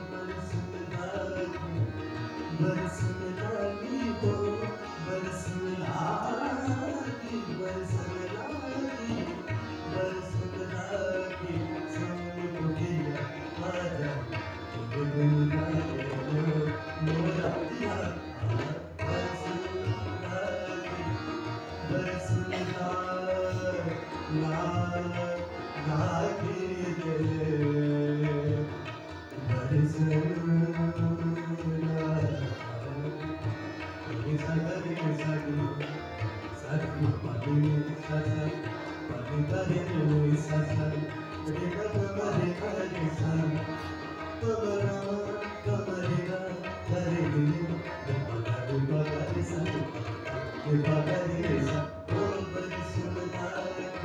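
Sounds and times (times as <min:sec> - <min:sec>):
harmonium: 0:00.0 - 0:54.0
man singing: 0:00.0 - 0:54.0
tabla rhythm: 0:00.0 - 0:54.0.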